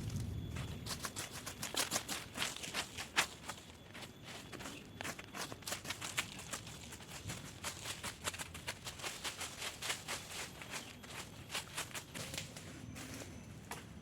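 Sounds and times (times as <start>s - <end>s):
footsteps crunching on dry leaves: 0.0s - 14.0s.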